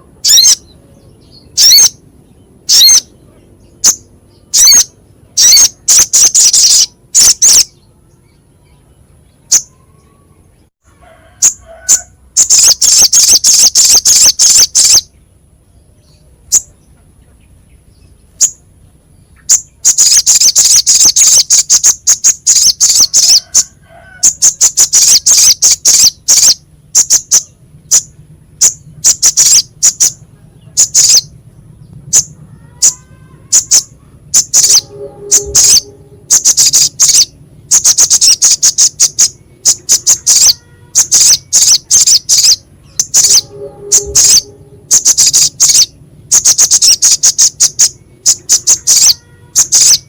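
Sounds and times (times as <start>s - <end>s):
bird calling harsh chips: 0.0s - 2.0s, 2.6s - 8.5s, 11.0s - 15.1s, 19.3s - 31.4s, 32.1s - 50.0s.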